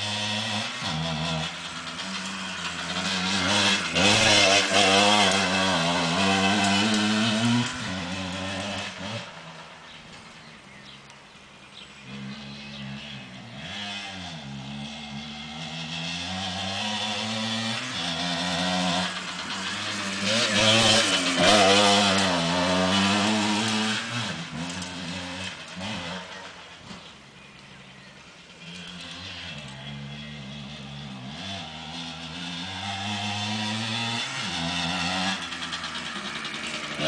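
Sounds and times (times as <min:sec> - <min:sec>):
dirt bike engine revving: 0:00.0 - 0:11.0, 0:11.7 - 0:37.0.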